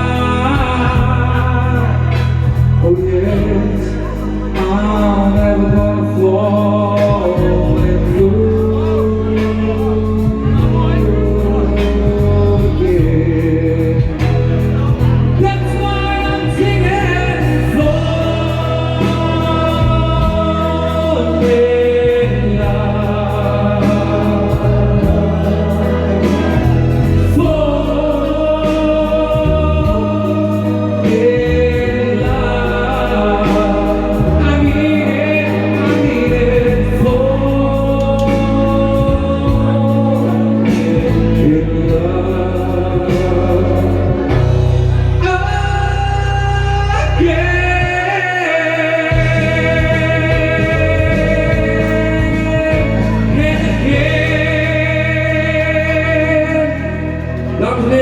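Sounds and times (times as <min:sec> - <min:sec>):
choir-like backing vocals: 0:00.0 - 0:58.0
steady bass: 0:00.0 - 0:58.0.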